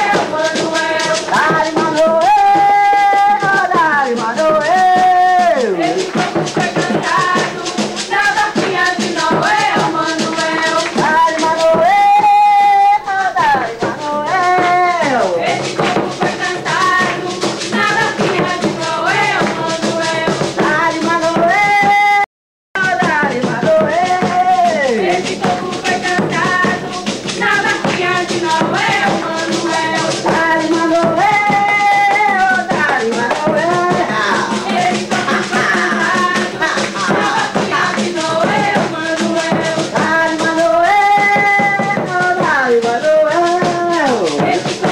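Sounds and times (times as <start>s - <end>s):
rattling percussion beat: 0.0s - 22.2s, 22.8s - 44.9s
person singing: 0.0s - 44.9s.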